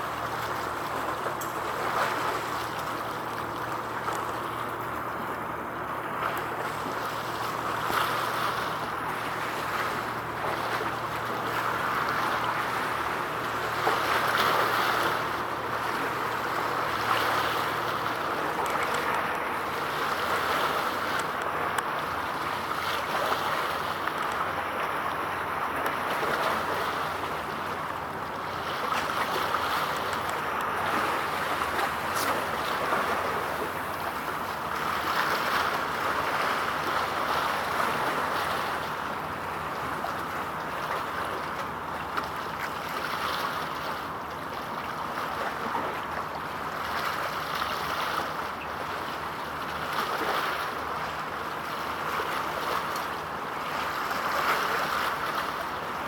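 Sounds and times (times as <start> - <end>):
sea water rushing: 0.0 - 56.0.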